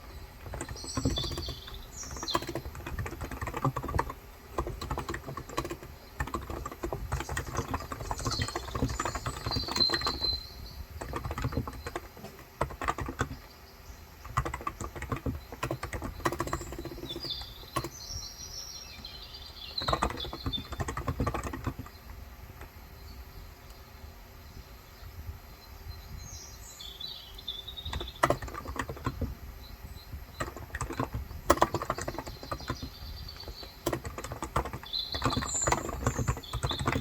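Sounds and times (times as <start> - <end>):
fast keyboard typing: 0.0 - 18.2, 18.9 - 22.7, 27.7 - 37.0
birds chirping: 0.0 - 37.0.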